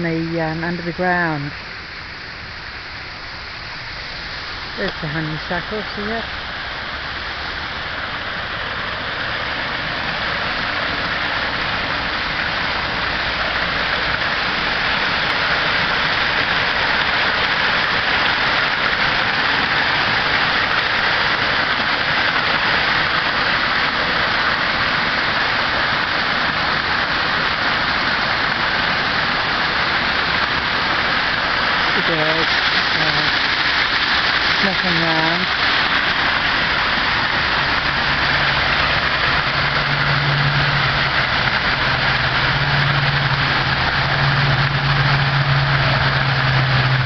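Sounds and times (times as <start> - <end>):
waterfall roaring: 0.0 - 47.0.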